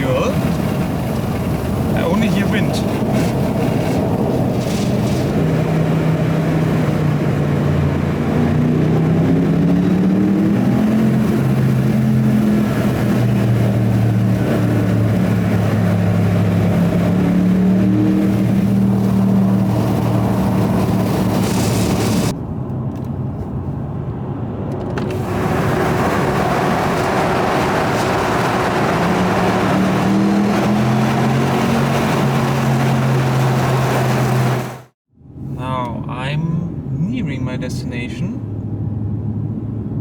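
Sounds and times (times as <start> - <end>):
car engine accelerating: 0.0 - 23.2, 24.3 - 35.0
wind rush: 0.0 - 35.7.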